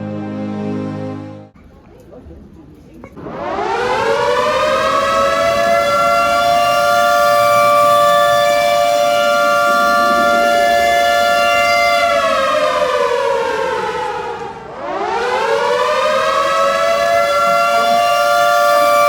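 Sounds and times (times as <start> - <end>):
alarm siren wailing: 3.2 - 19.0.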